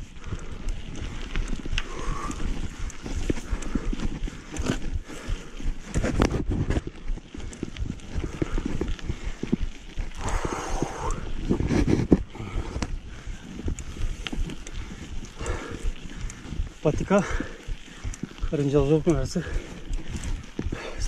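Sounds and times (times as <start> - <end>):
bike rattling over rocks: 0.0 - 21.0
wind rumble on microphone: 0.0 - 21.0.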